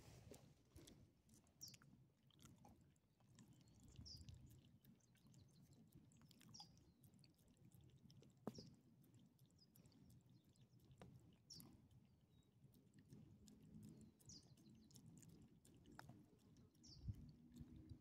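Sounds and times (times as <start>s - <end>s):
dog licking and chewing: 0.1s - 18.0s.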